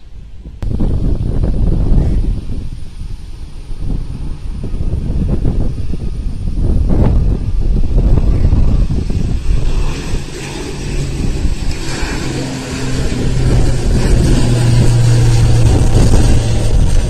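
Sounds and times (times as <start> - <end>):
turboprop airplane drone: 0.0 - 17.0.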